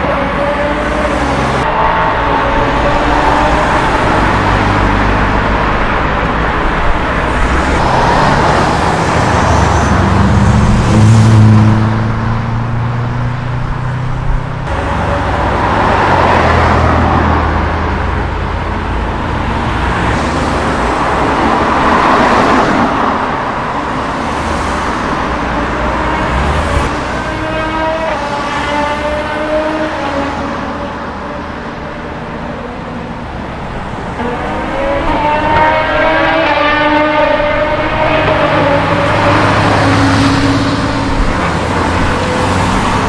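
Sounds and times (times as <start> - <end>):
cars accelerating past: 0.0 - 43.0
tyre and traffic noise: 0.0 - 43.0.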